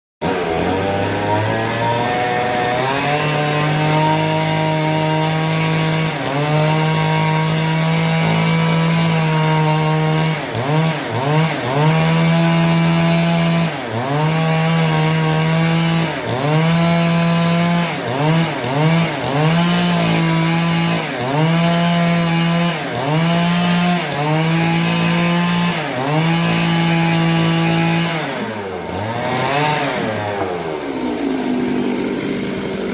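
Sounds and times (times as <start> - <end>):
chainsaw cutting wood: 0.2 - 32.9.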